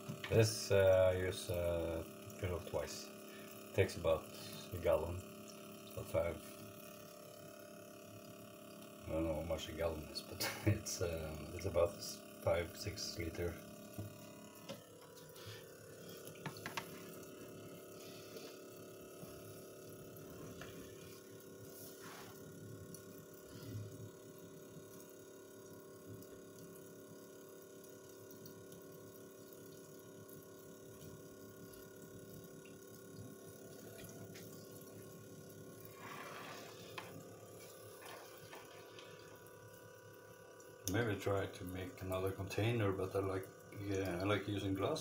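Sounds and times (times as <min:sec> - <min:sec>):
water trickling into sink drain: 0:00.0 - 0:18.0, 0:22.4 - 0:45.0
water pump humming: 0:00.0 - 0:45.0.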